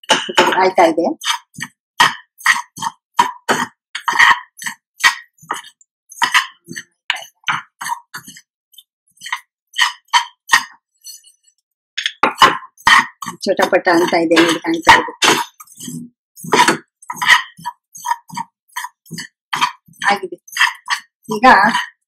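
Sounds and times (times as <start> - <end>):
metal spoon scraping a pan: 0.0 - 22.0.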